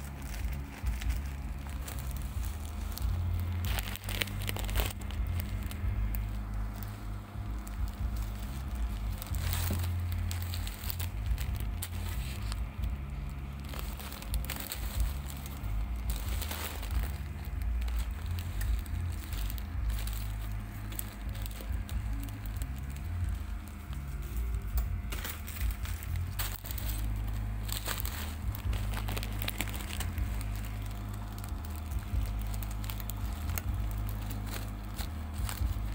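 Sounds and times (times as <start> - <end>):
band sealer humming: 0.0 - 35.9
plastic bag crinkling: 0.0 - 35.9.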